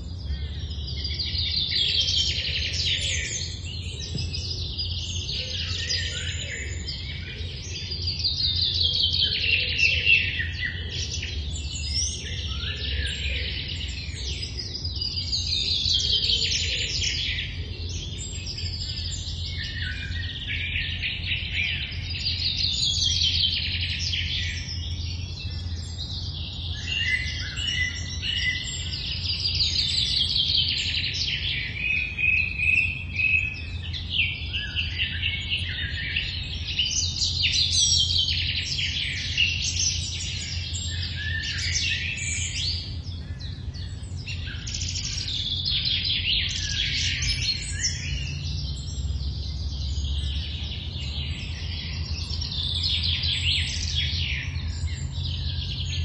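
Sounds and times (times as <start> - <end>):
songbirds singing: 0.0 - 56.0
steady low hum: 0.0 - 56.0.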